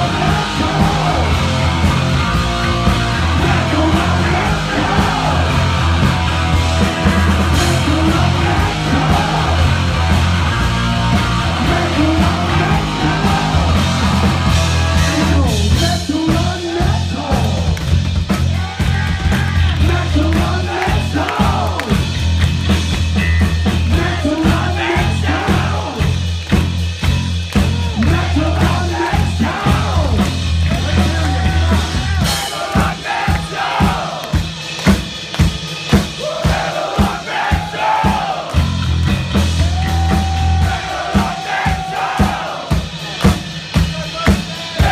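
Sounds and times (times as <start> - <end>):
sung and yelled vocals: 0.0 - 22.3, 23.6 - 26.4, 27.0 - 34.6, 36.1 - 38.8, 39.6 - 43.2, 43.8 - 44.9
heavy metal band playing live: 0.0 - 44.9.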